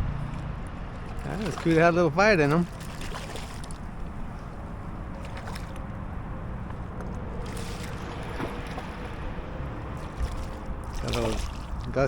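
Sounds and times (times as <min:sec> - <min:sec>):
water against kayak hull: 0:00.3 - 0:12.0.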